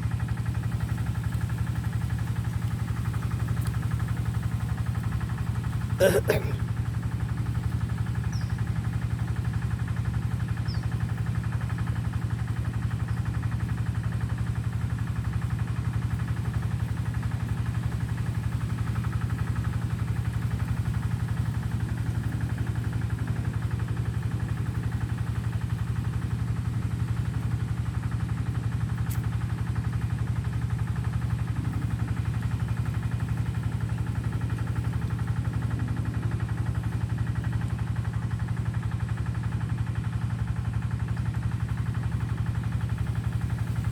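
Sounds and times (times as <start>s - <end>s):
small engine droning: 0.0s - 43.9s.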